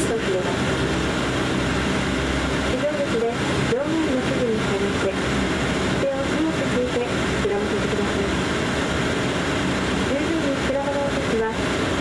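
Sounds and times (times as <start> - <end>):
turboprop drone inside cabin: 0.0 - 12.0.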